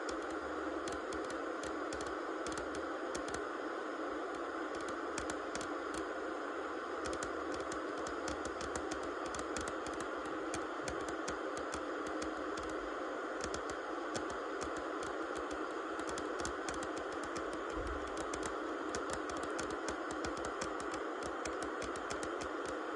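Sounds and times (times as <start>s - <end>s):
small clicks and crackles: 0.0s - 3.4s, 4.4s - 6.1s, 7.0s - 12.8s, 13.4s - 22.9s
white-noise hiss: 0.0s - 22.9s.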